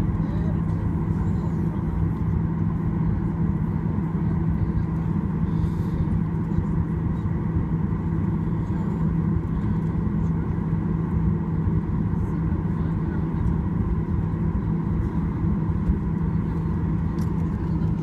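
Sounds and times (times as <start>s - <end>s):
airplane cabin engine drone: 0.0s - 18.0s.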